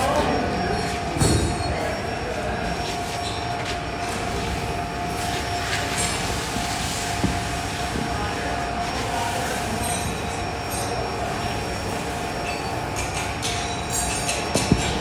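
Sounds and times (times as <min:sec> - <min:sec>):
foundry machinery roaring: 0:00.0 - 0:15.0.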